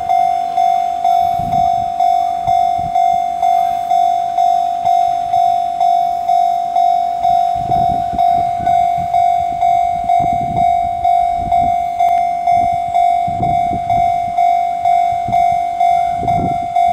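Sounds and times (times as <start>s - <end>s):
level crossing warning bell: 0.0s - 16.9s.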